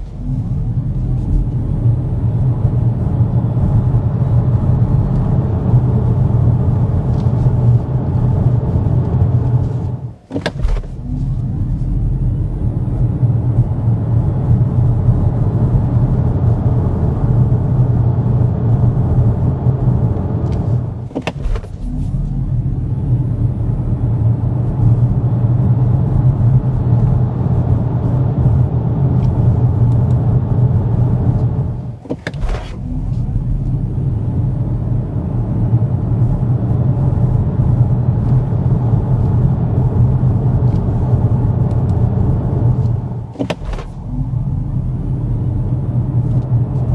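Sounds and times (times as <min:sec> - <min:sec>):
road and tyre rumble: 0:00.0 - 0:46.9.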